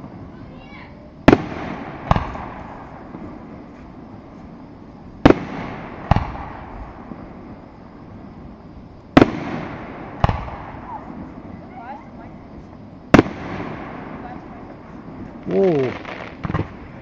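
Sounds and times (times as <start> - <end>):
fireworks bursting with rolling rumble: 0.0 - 17.0.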